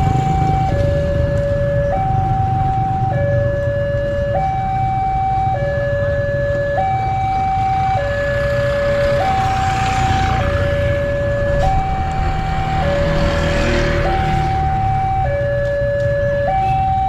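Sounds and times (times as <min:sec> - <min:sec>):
level crossing alarm tones: 0:00.0 - 0:17.0.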